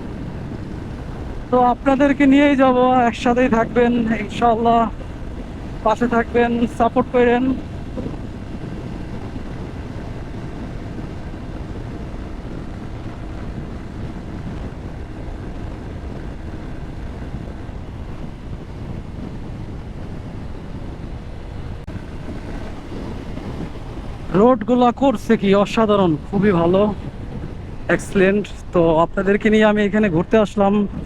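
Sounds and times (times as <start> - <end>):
motorcycle engine and tyres: 0.0 - 31.0
wind rushing over microphone: 0.0 - 31.0.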